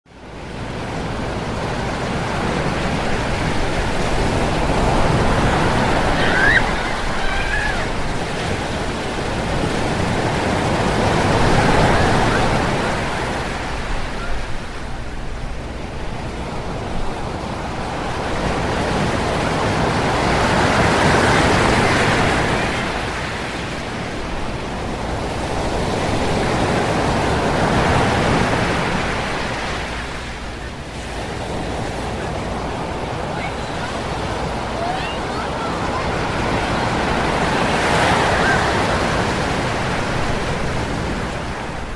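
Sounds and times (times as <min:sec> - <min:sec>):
waves breaking on beach: 0:00.1 - 0:41.9.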